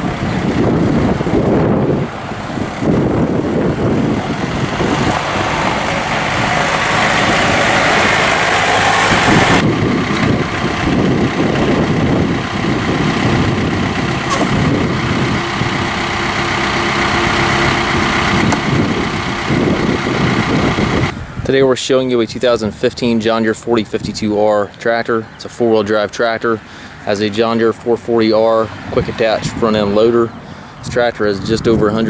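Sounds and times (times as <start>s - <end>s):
tractor diesel engine running: 0.0s - 21.4s, 22.3s - 32.0s.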